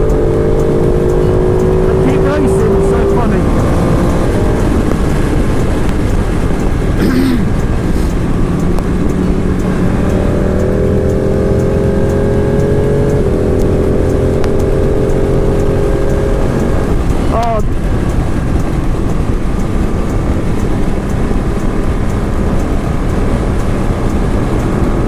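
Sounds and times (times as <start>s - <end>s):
motorcycle engine running: 0.0s - 25.0s
wind rumble on microphone: 0.0s - 25.0s.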